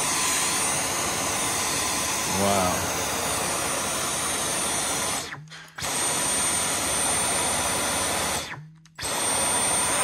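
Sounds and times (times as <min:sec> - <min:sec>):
cordless vacuum running: 0:00.0 - 0:10.0
vacuum motor spinning down: 0:00.0 - 0:10.0.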